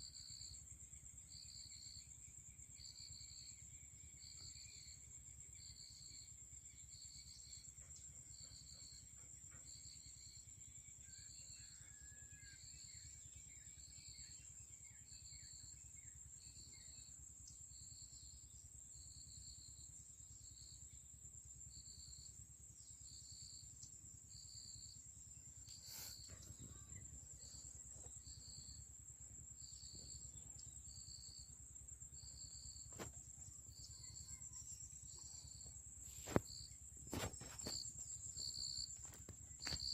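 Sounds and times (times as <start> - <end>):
rhythmic insect chirp: 0.0 - 39.9.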